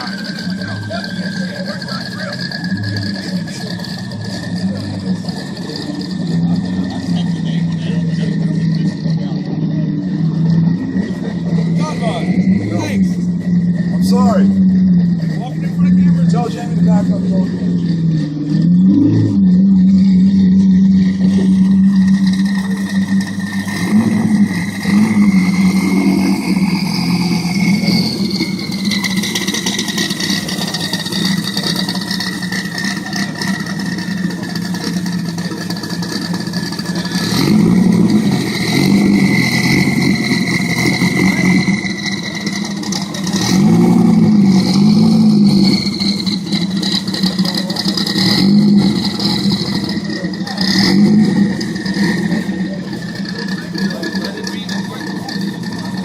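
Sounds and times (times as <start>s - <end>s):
car engine idling and revving: 0.0s - 56.0s
high-pitched whine: 0.0s - 56.0s.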